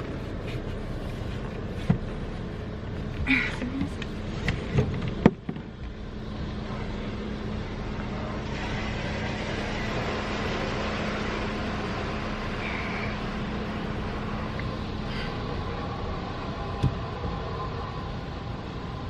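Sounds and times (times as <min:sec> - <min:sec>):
car wash spray and machinery: 0:00.0 - 0:19.0
low hum: 0:00.0 - 0:19.0.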